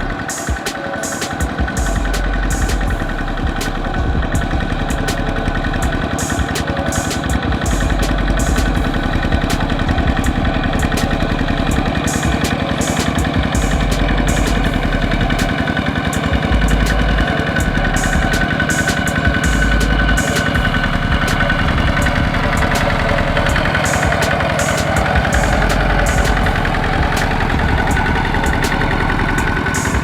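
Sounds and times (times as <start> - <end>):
high whine: 0.0 - 30.0
diesel tractor engine knocking: 1.4 - 30.0.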